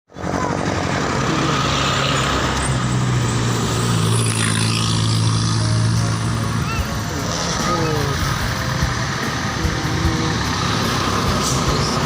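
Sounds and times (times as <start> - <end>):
bus engine humming: 0.1 - 12.0
road and traffic noise: 0.1 - 12.0.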